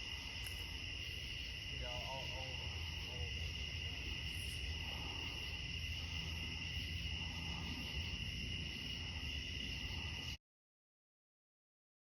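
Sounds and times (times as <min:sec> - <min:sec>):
crickets trilling: 0:00.0 - 0:10.4
low outdoor rumble: 0:00.0 - 0:10.4.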